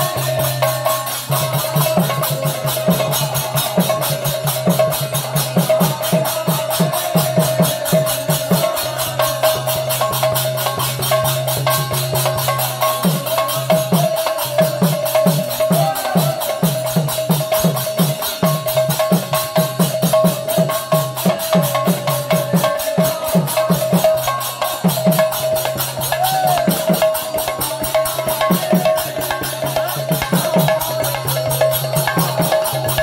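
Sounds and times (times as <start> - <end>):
hand drums in fast rhythm: 0.0 - 33.0.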